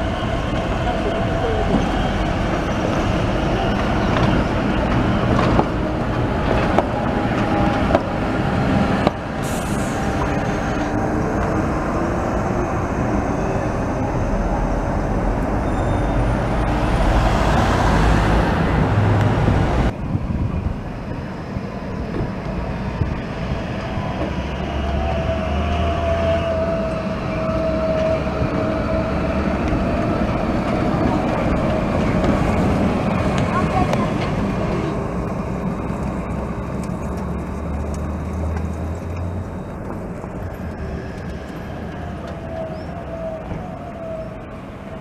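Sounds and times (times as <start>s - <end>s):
passing tram whine: 0.0s - 45.0s
street traffic: 0.0s - 45.0s
tram rumbling: 0.0s - 45.0s.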